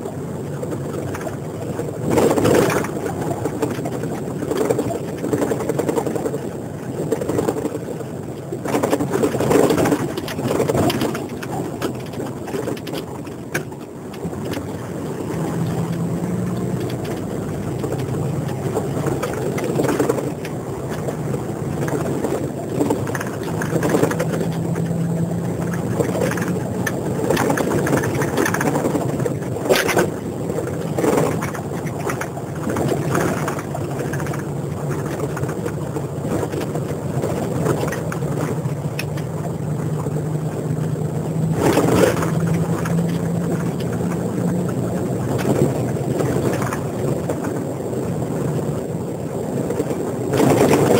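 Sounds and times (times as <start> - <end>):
road noise inside vehicle: 0.0 - 50.9
vehicle engine drone: 0.0 - 50.9.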